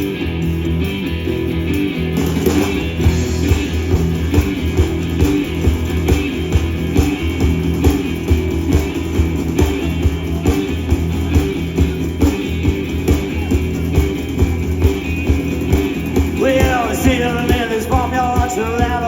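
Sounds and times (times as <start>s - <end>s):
blues band guitar instrumental: 0.0s - 19.0s.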